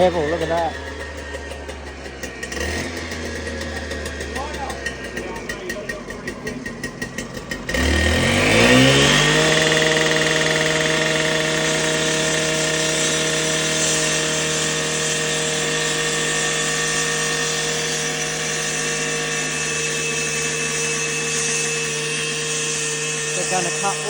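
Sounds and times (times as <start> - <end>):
concrete saw engine revving: 0.0 - 24.0.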